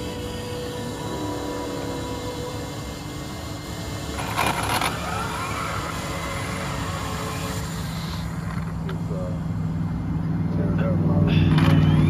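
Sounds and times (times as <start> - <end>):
harsh motor burst: 0.0 - 10.1
electric motor whine: 0.0 - 12.0
steady low rumble: 0.0 - 12.0.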